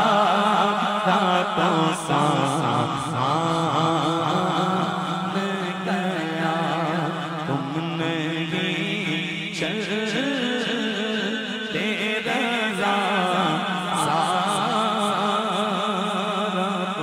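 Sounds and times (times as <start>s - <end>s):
low vocal drone: 0.0s - 17.0s
man singing: 0.0s - 17.0s.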